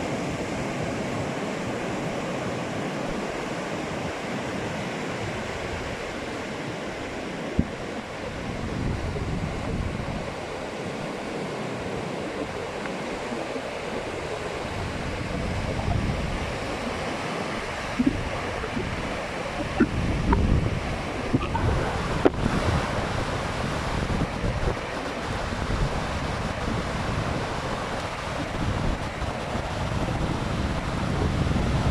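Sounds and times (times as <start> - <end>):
sea waves washing ashore: 0.0 - 31.9
wind buffeting microphone: 0.0 - 31.9.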